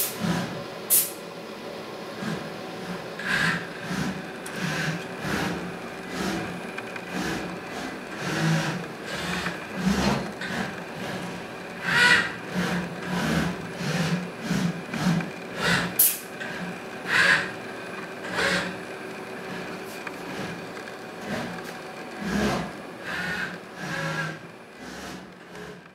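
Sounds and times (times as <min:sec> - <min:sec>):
robot arm electric hum: 0:00.0 - 0:25.9.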